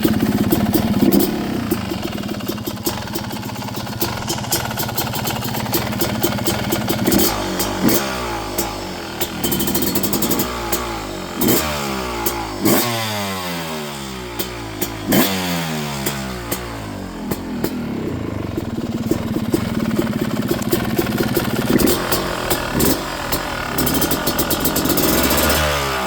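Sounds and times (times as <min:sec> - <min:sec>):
dirt bike engine revving: 0:00.0 - 0:03.3, 0:04.0 - 0:26.0.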